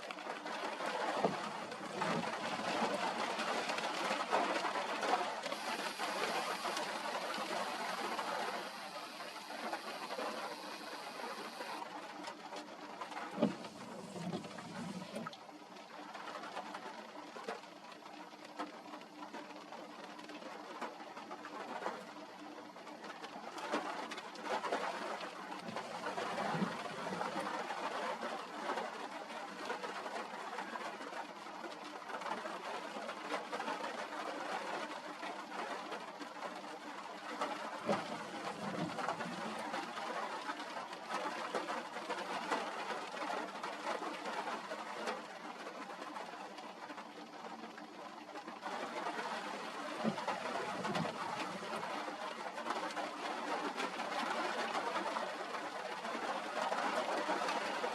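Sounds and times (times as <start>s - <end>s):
rain and wind hiss on microphone: 0.0s - 57.9s.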